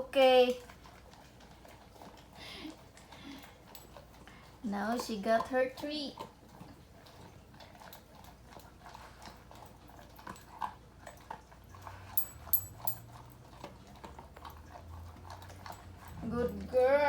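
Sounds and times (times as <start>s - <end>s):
dog chewing and crunching: 0.1s - 17.0s.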